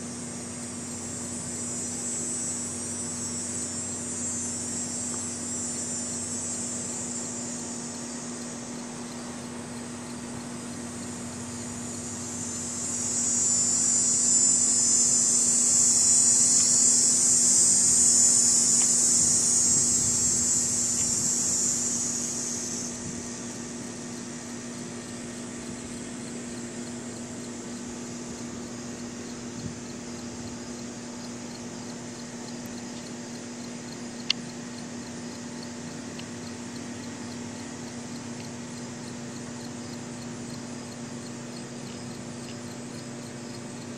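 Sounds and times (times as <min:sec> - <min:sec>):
cicada buzzing: 0:00.0 - 0:43.9.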